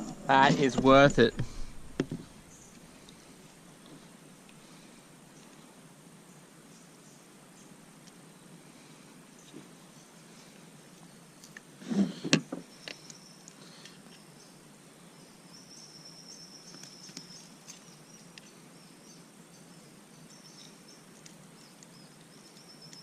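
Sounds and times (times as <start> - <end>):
faint insects buzzing: 0.0 - 23.0.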